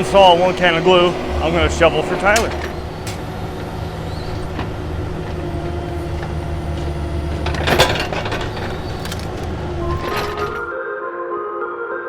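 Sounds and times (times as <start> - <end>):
clattering: 0.0 - 10.7
excavator diesel engine running: 0.0 - 10.7.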